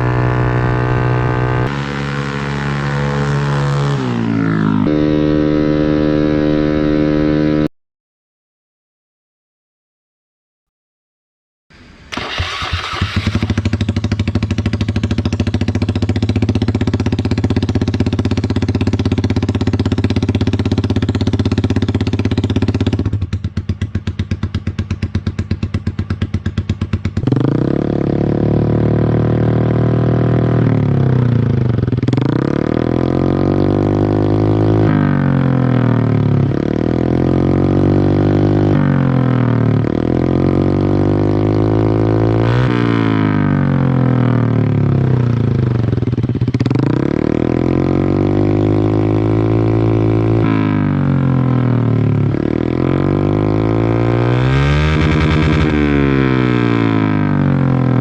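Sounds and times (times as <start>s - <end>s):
motorcycle engine revving: 0.0s - 7.7s, 11.8s - 58.0s.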